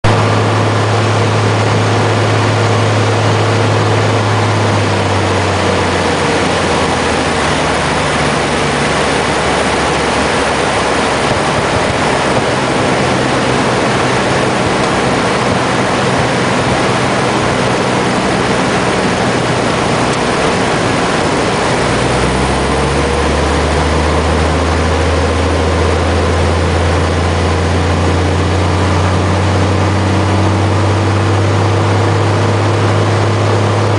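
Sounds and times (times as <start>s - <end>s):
light plane engine drone: 0.0s - 33.9s
rushing air: 0.0s - 33.9s.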